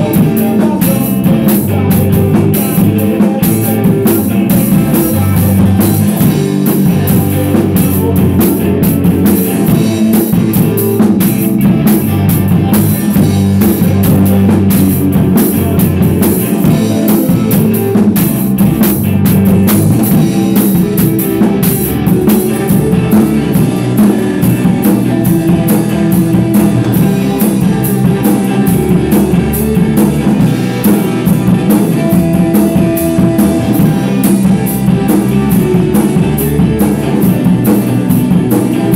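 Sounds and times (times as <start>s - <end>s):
drum kit played hard: 0.0s - 38.9s
electric guitar chords: 0.0s - 38.9s.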